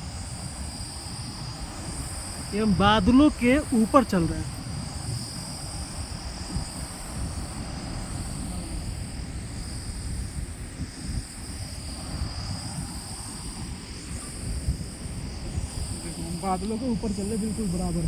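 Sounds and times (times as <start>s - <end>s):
insects chirring: 0.0s - 18.0s
wind buffeting microphone: 0.0s - 18.0s.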